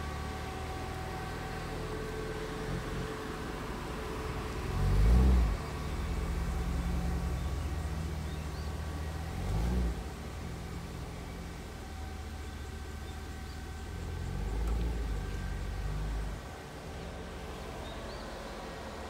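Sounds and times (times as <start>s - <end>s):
car engine revving: 0.0s - 19.0s
car engine running: 0.0s - 19.0s.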